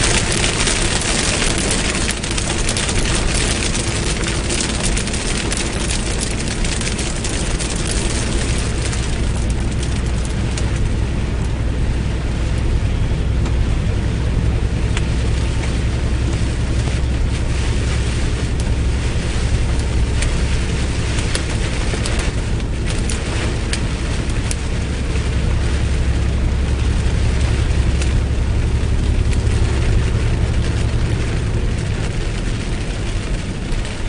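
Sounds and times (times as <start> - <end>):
rain rushing: 0.0 - 34.0
raindrops ticking on windshield: 0.0 - 34.0
truck engine and tyre rumble: 0.0 - 34.0.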